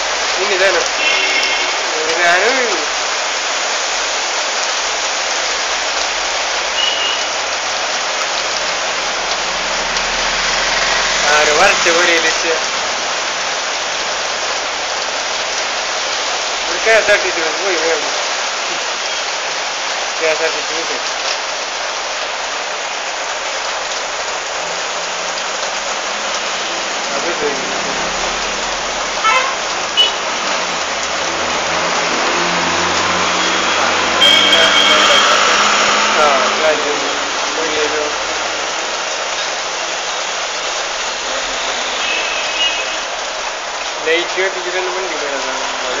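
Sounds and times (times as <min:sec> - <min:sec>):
rain pouring on wet street: 0:00.0 - 0:46.0.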